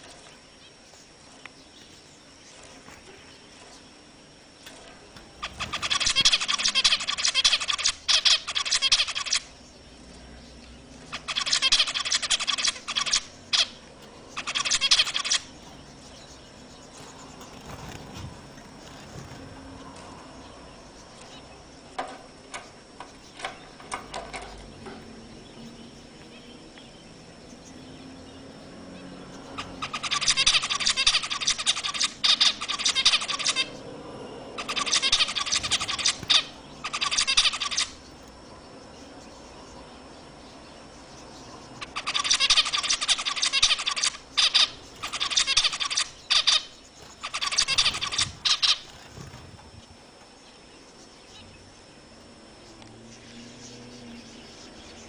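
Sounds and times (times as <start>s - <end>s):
finches chattering: 0.0s - 55.0s.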